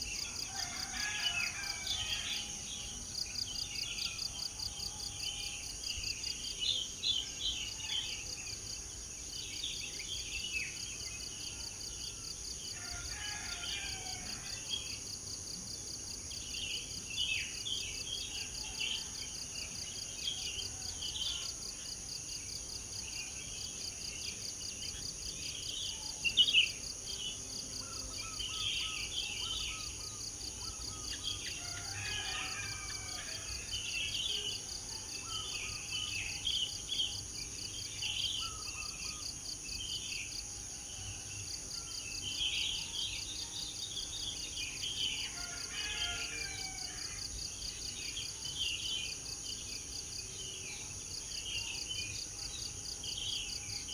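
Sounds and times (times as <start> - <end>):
pulsing insect chorus: 0.0 - 53.9.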